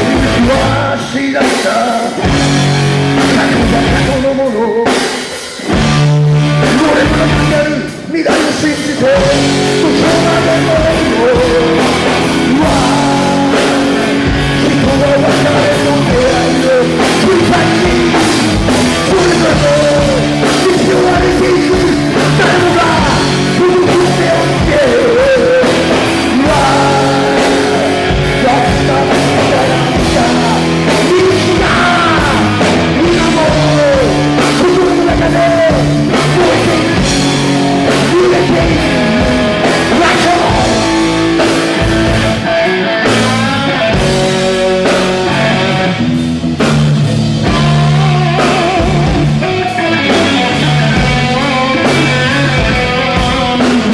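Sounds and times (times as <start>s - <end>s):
person singing: 0.0s - 46.2s, 47.4s - 53.9s
bass guitar: 0.0s - 53.9s
drums: 0.0s - 53.9s
electric guitar: 0.0s - 53.9s.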